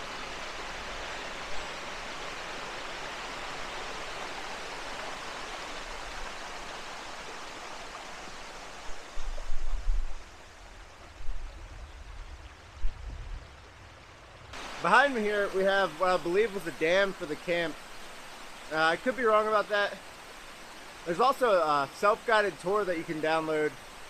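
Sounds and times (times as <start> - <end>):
water rushing down stream: 0.0 - 24.0.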